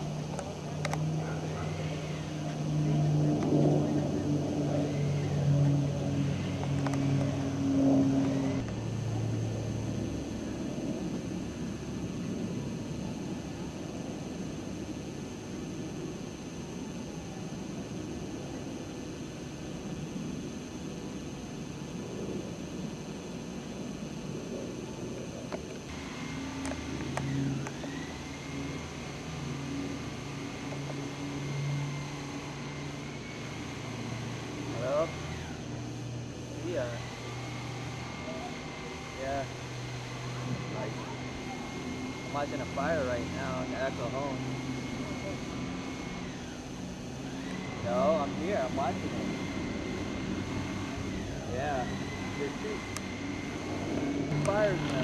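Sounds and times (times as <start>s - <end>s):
engine drone: 0.0s - 55.0s.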